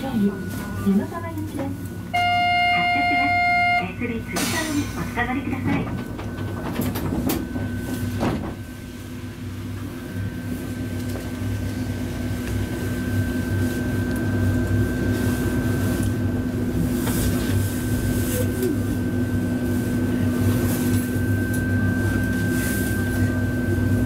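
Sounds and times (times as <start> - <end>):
tram motor whine and hum: 0.0 - 24.0.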